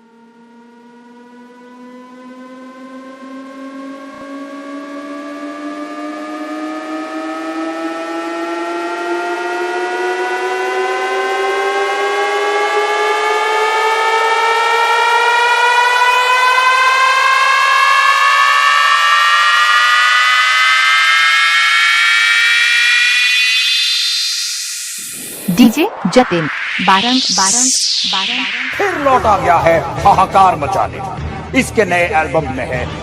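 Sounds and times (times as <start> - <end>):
buzzy synth riser: 0.0 - 31.2
fast rising synth layer: 0.0 - 31.2.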